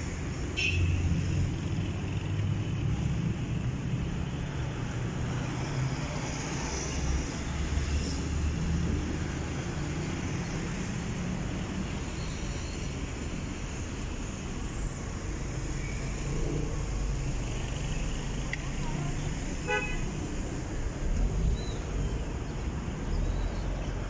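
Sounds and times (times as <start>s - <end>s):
car engines passing: 0.0s - 24.0s.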